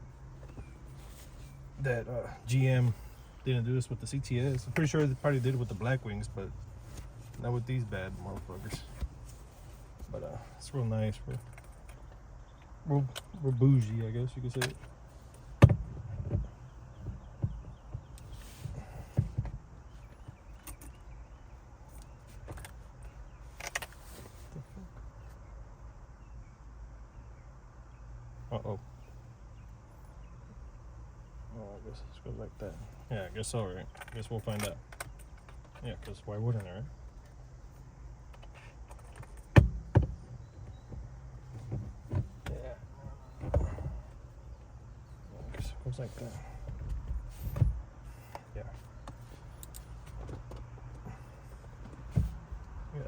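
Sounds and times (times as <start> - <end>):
steering wheel knocks and clunks: 0.0 - 25.2, 32.3 - 53.0.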